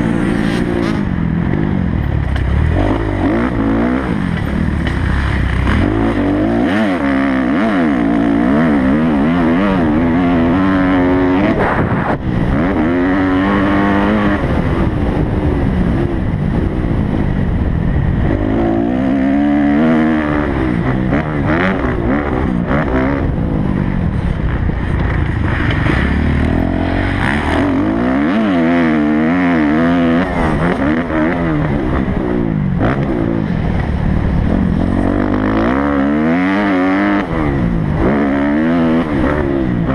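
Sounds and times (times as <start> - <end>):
motocross bike engine revving: 0.0 - 39.9
wind and track noise: 0.0 - 39.9.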